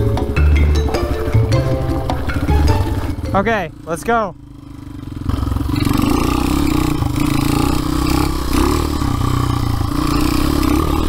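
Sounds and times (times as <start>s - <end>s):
motorbike engine revving: 0.0s - 11.0s.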